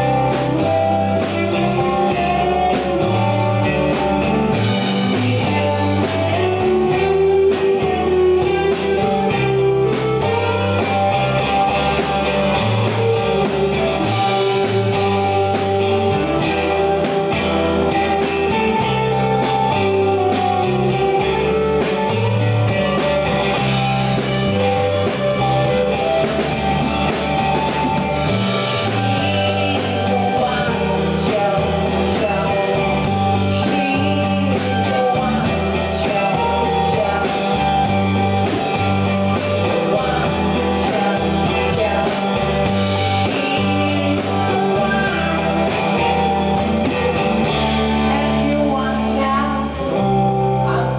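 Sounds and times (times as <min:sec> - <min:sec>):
drum kit: 0:00.0 - 0:50.9
electric bass: 0:00.0 - 0:50.9
electric guitars: 0:00.0 - 0:50.9.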